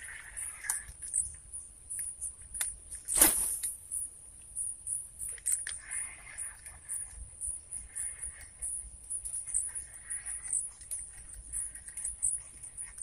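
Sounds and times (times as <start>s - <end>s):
insects chirping trill: 0.0s - 13.0s.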